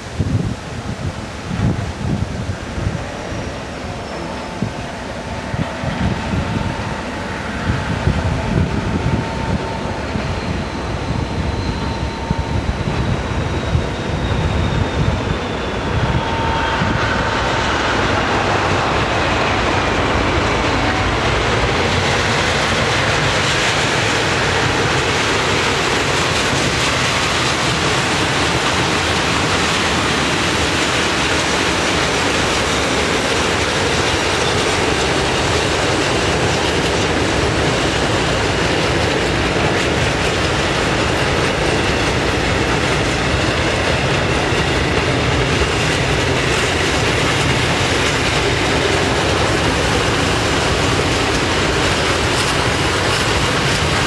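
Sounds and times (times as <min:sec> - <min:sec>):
diesel locomotive whine: 0:00.0 - 0:54.0
freight train wheels clacking: 0:01.0 - 0:54.0.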